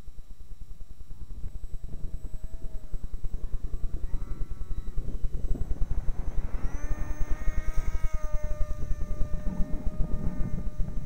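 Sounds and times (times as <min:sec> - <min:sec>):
electric motor and propeller whine: 0:00.0 - 0:11.0
wind buffeting microphone: 0:01.1 - 0:11.0.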